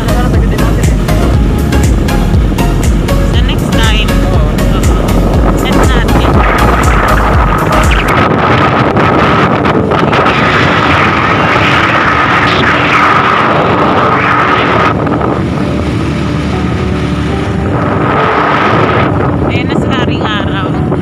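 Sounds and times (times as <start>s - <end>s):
vehicle engine and road noise: 0.0s - 21.0s
wind on microphone: 0.0s - 21.0s.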